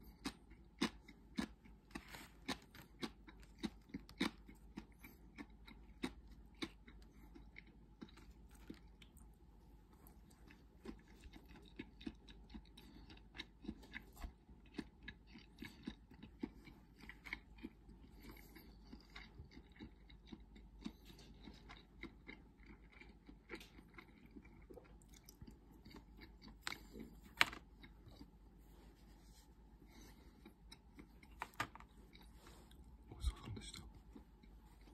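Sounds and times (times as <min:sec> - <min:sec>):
close chewing: 0:00.0 - 0:28.9, 0:29.8 - 0:34.9.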